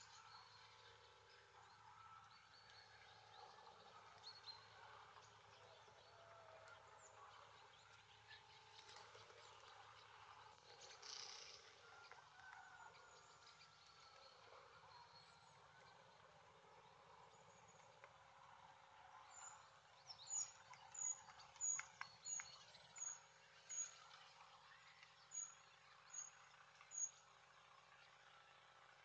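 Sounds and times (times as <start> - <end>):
small birds chirping: 0.0 - 27.4.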